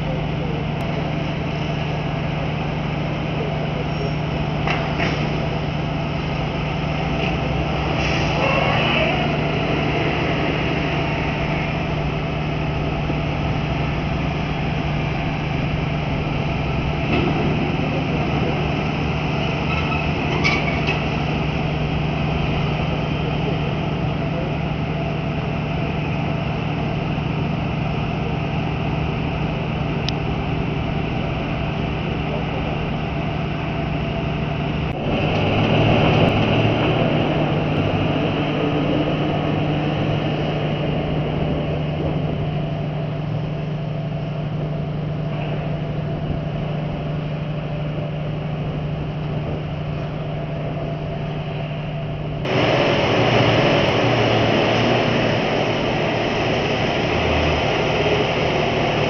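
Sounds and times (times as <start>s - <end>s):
diesel tractor engine running: 0.0s - 59.0s
low machinery drone: 0.0s - 59.0s.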